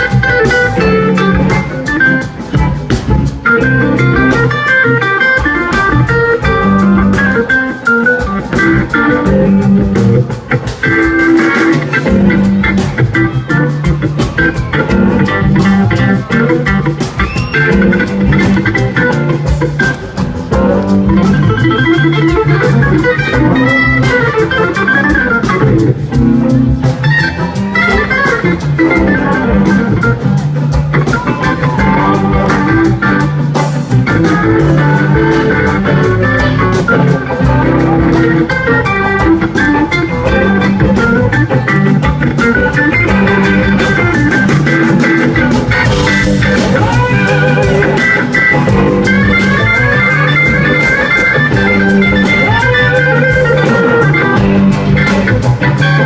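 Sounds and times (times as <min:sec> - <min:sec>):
band music with organ guitar drums: 0:00.0 - 0:56.0.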